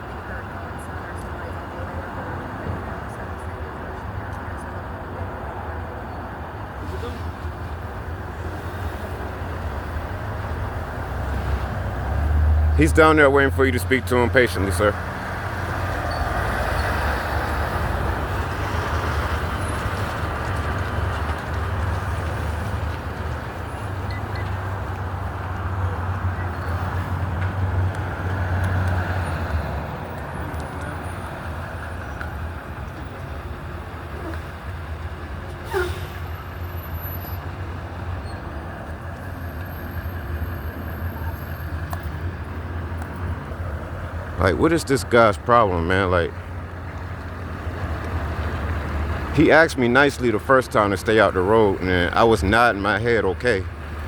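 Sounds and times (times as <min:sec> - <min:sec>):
large vehicle engine rumbling: 0:00.0 - 0:54.0
street noise: 0:00.0 - 0:54.0.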